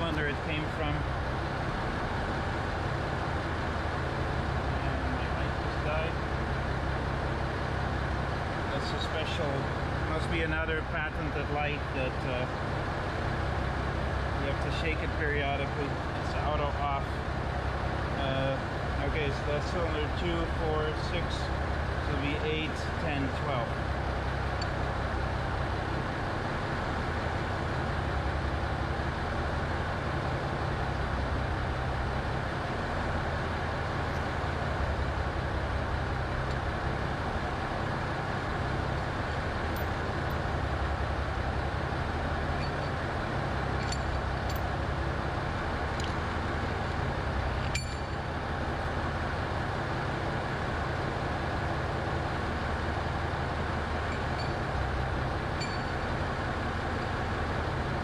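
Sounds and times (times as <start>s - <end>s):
machine drone with low hum: 0.0s - 58.0s.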